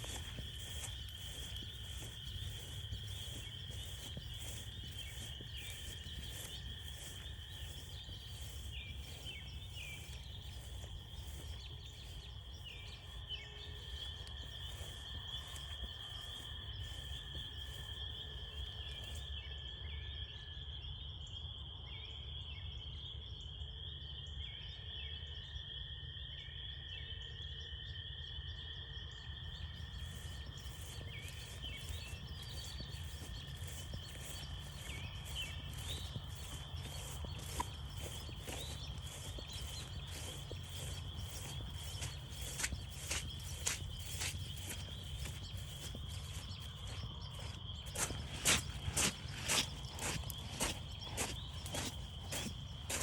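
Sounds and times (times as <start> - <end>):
footsteps on a trail: 0.0 - 19.3, 29.6 - 53.0
frogs trilling in chorus: 0.0 - 22.2, 22.8 - 53.0.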